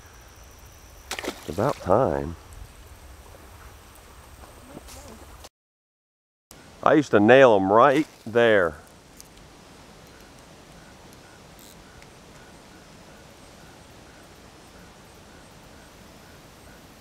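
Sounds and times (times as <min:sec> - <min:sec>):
outdoor background hiss: 0:00.0 - 0:05.5, 0:06.5 - 0:17.0.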